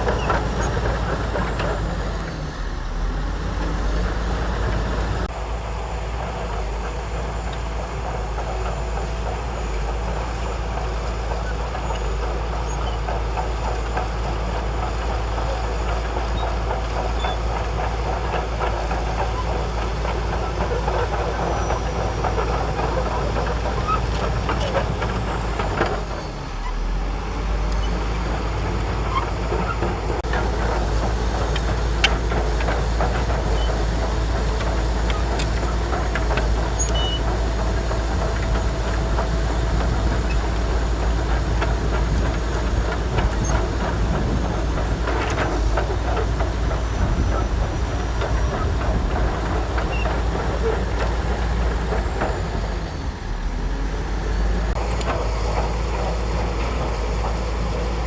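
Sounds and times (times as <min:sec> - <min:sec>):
steel tracks clanking: 0:00.0 - 0:02.5, 0:03.5 - 0:58.0
bulldozer diesel engine under load: 0:00.0 - 0:58.0.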